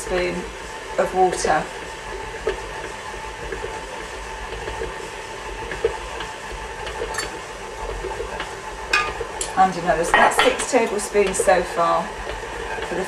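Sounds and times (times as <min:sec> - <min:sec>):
stand mixer running: 0:00.0 - 0:13.0.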